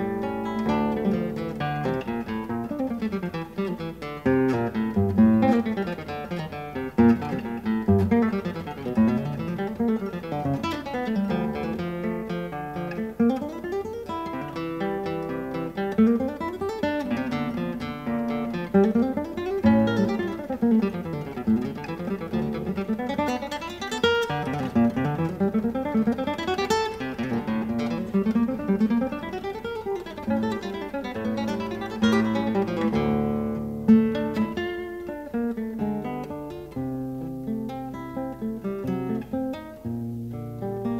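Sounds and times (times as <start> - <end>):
acoustic guitar picking: 0.0 - 40.9.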